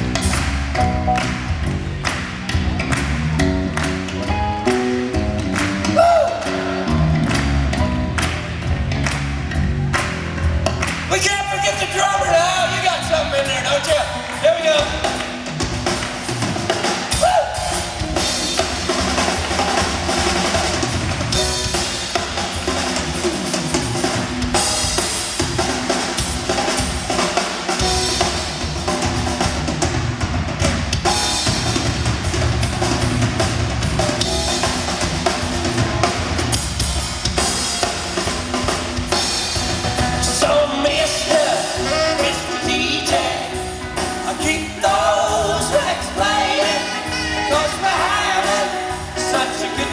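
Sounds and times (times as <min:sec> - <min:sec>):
band playing: 0:00.0 - 0:49.9
drum kit groove: 0:00.0 - 0:49.9.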